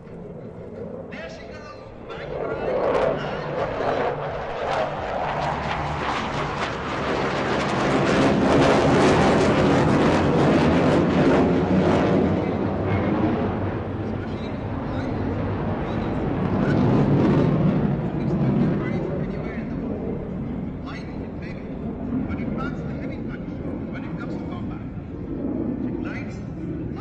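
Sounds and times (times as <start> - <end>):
jet flying past: 0.0 - 27.0.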